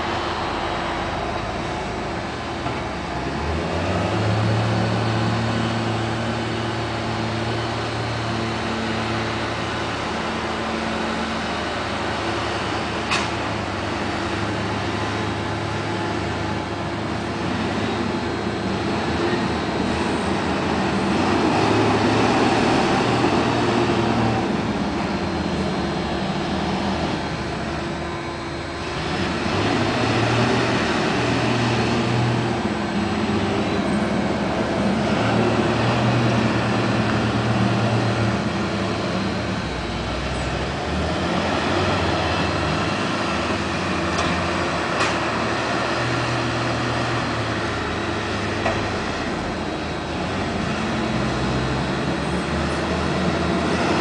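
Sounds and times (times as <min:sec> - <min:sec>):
diesel tractor engines: 0:00.0 - 0:54.0.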